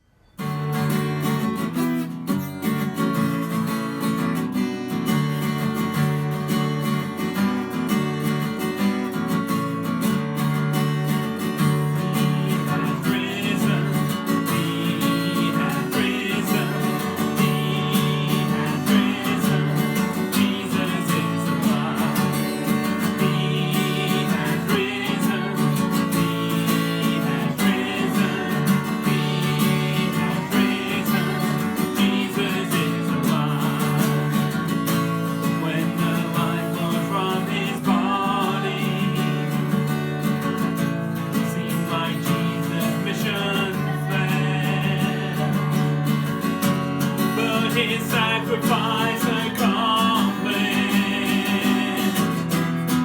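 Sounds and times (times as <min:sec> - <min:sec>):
strummed acoustic guitar worship music: 0:00.0 - 0:53.0.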